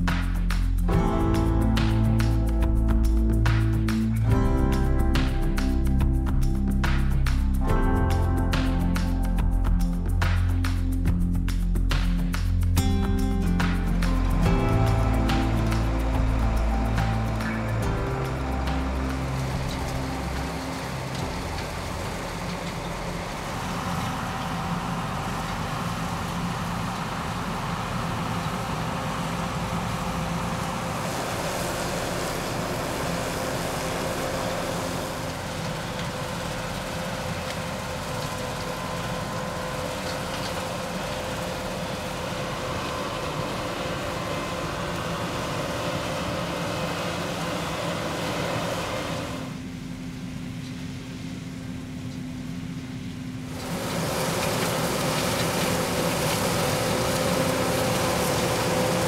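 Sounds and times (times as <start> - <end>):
combine harvester machinery droning: 0.0 - 59.0.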